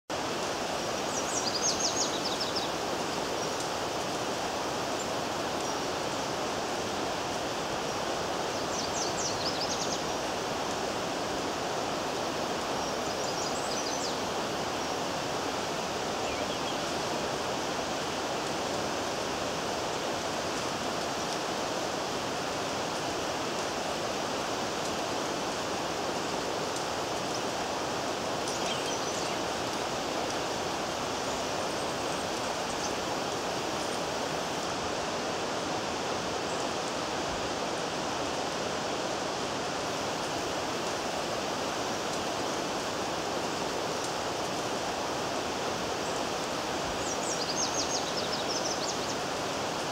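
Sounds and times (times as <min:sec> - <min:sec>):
stream rushing: 0:00.1 - 0:49.9.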